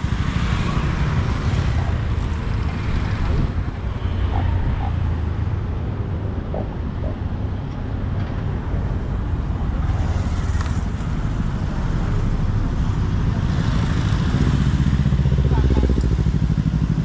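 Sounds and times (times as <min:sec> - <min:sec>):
low rumble of road traffic: 0:00.0 - 0:17.0
wind buffeting microphone: 0:00.7 - 0:17.0.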